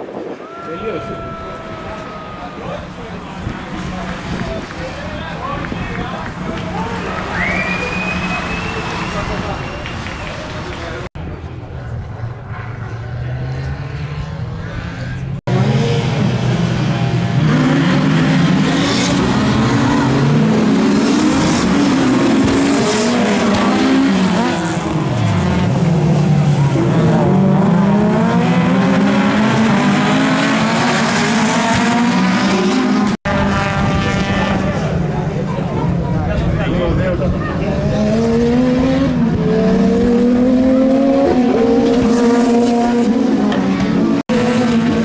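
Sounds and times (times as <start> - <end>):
racing car engines revving: 0.4 - 45.0.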